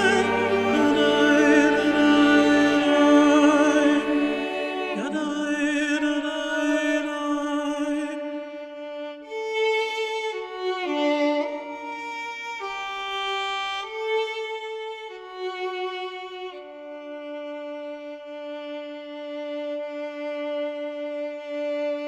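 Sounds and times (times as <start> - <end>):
bowed string melody: 0.0 - 22.0.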